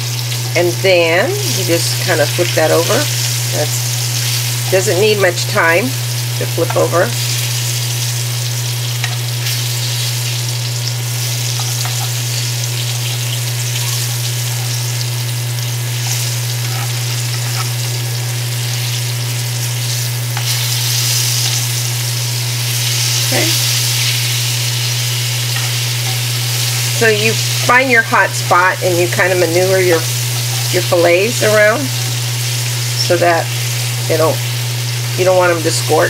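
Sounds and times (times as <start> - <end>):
fish fillets sizzling in oil: 0.0 - 36.0
steady low hum: 0.0 - 36.0.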